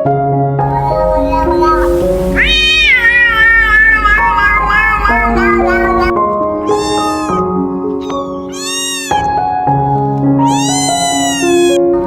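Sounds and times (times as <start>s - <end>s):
gentle background music: 0.1s - 12.0s
cat meowing: 0.7s - 9.4s, 10.4s - 11.8s.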